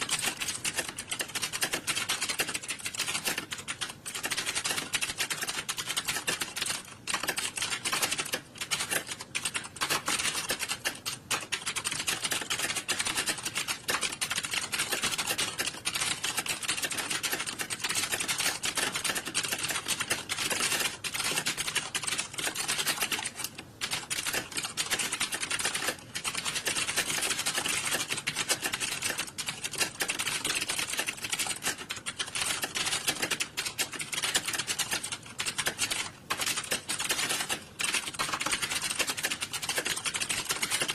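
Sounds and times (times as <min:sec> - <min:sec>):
keyboards typing clatter: 0:00.0 - 0:40.9.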